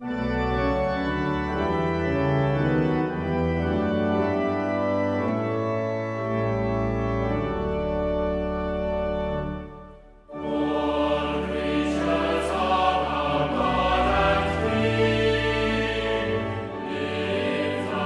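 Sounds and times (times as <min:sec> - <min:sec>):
organ playing sustained chords: 0:00.0 - 0:18.0.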